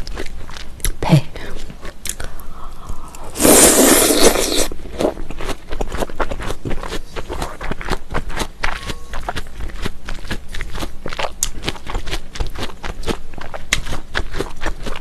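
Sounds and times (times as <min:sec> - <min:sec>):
wet chewing clicks and squelches: 0:00.0 - 0:03.3, 0:04.6 - 0:15.0.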